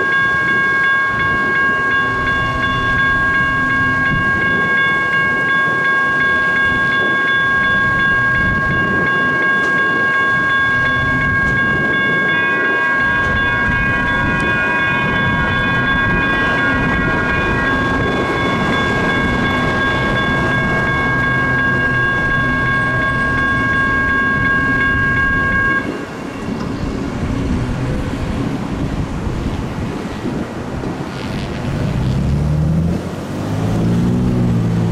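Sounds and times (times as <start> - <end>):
crossing warning bell ringing: 0.0 - 31.1
train rumbling on tracks: 0.0 - 34.9.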